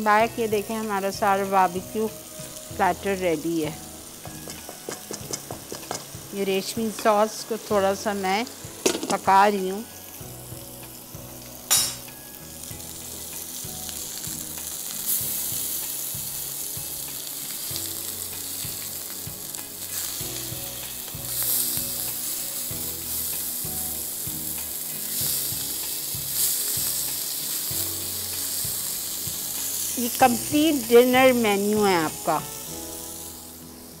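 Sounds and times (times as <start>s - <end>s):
meat sizzling in oil: 0.0s - 34.0s.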